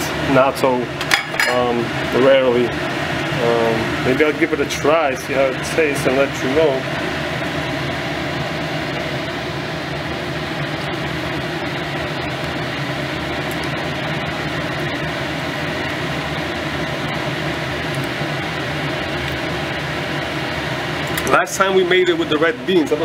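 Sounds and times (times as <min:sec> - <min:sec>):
electric fan whooshing: 0:00.0 - 0:23.0.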